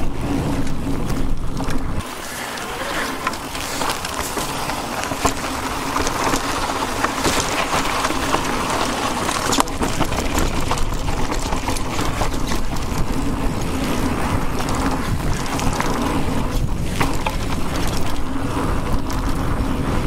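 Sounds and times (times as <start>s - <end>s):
bike clicks and rattles: 0.0s - 20.0s
electric bike rumbling: 0.0s - 20.0s
wind buffeting microphone: 0.0s - 20.0s.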